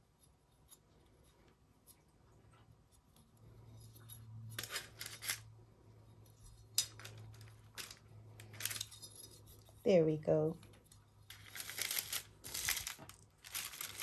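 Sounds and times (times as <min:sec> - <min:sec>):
small clicks and rustles: 0:00.1 - 0:09.9, 0:10.6 - 0:14.0.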